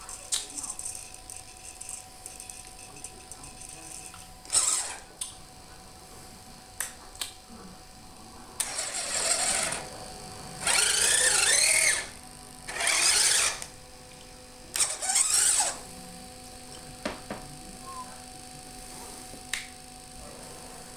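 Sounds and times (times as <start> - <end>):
electric motors whirring: 0.0 - 20.9.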